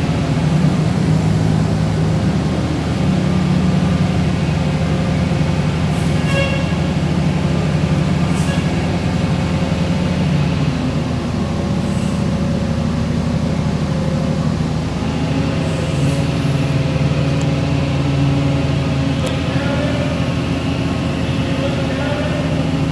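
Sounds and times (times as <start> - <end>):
furnace machinery hum: 0.0 - 22.9.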